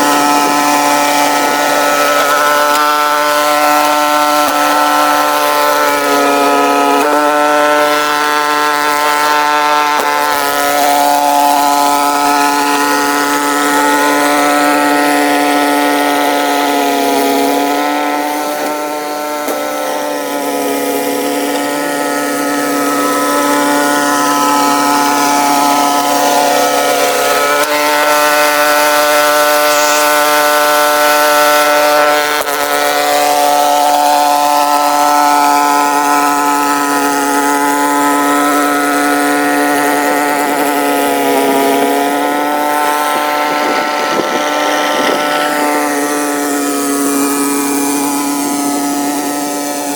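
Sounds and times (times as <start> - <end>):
small gasoline engine running: 0.0 - 49.9.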